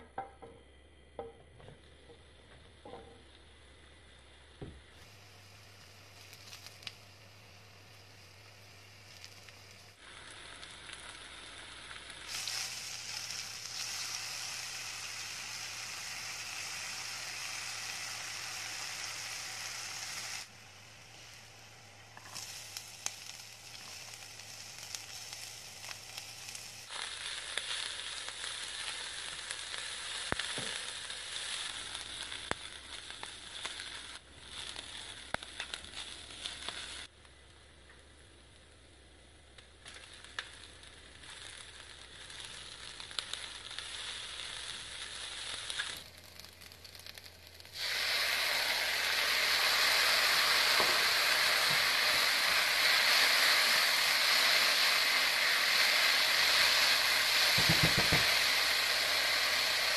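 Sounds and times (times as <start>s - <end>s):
mushrooms and onion sizzling in a wok: 0.0s - 59.9s.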